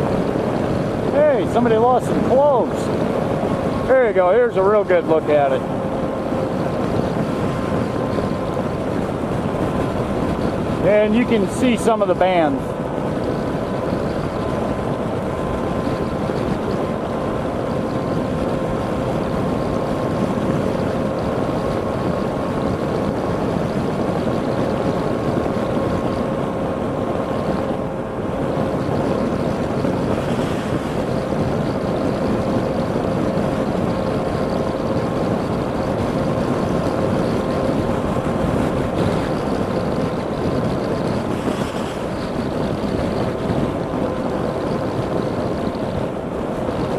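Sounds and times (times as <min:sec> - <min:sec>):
car road and wind noise: 0:00.0 - 0:46.9.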